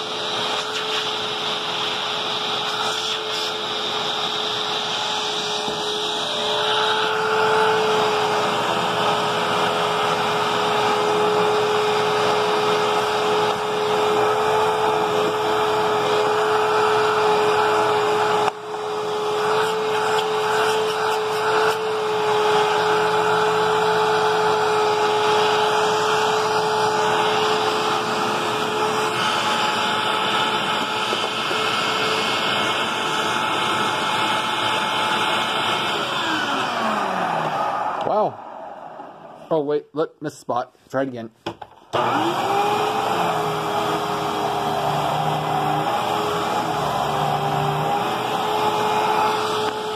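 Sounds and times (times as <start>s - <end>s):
vacuum cleaner running on carpet: 0.0s - 38.2s, 42.0s - 49.9s.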